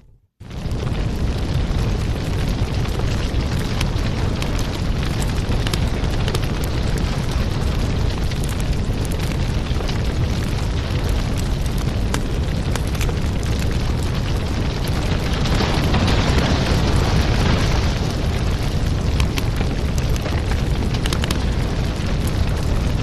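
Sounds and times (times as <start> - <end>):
wood fire crackling: 0.4 - 23.0.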